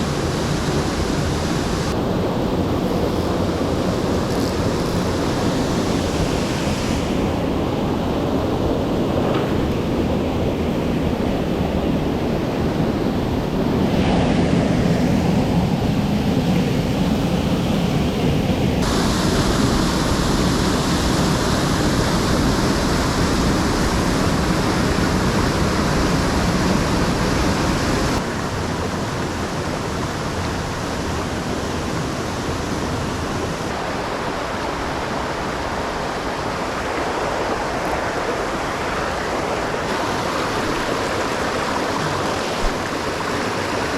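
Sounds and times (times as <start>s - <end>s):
mountain stream water rushing: 0.0s - 16.1s, 18.7s - 43.9s.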